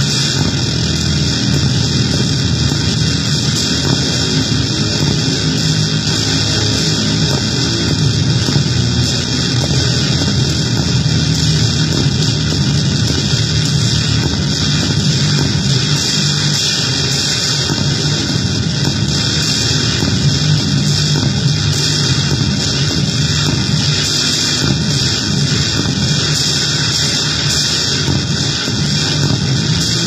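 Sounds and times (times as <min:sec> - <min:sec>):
distorted electronic noise: 0:00.0 - 0:30.0.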